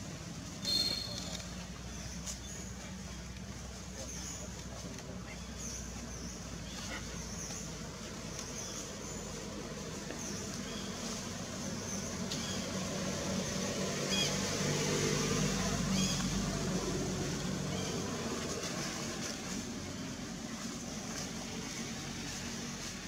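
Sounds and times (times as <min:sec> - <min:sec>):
distant engine hum: 0:00.0 - 0:23.0.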